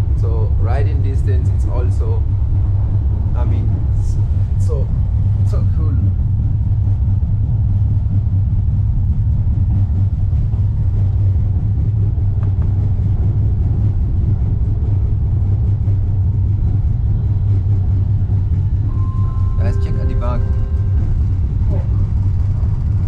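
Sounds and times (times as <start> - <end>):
railway car rumble: 0.0 - 23.0.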